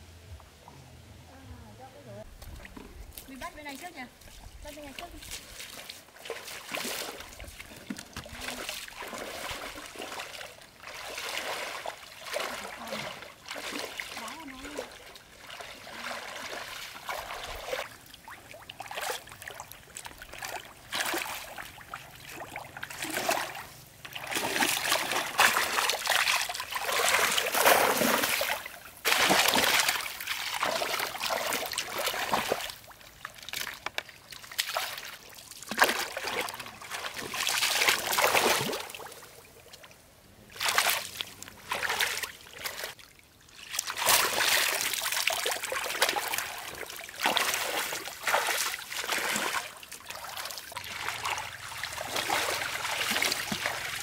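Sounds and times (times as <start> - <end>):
pond water splashing: 2.2 - 54.0.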